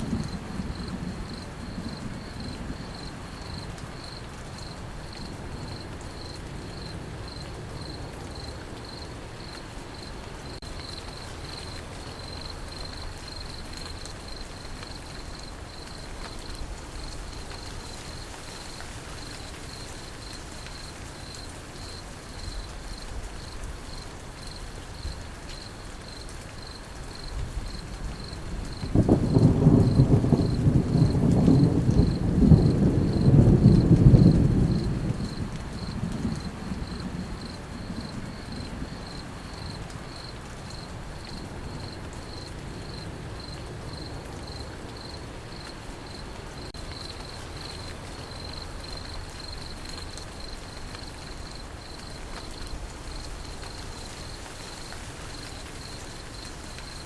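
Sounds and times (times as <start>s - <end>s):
crickets chirping: 0.0s - 57.0s
rain falling: 0.0s - 57.0s.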